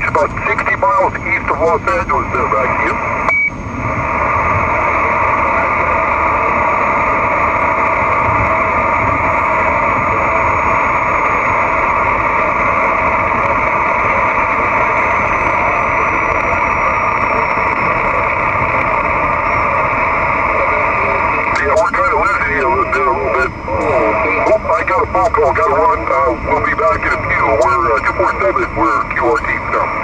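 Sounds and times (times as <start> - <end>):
radio static rush: 0.0 - 30.0.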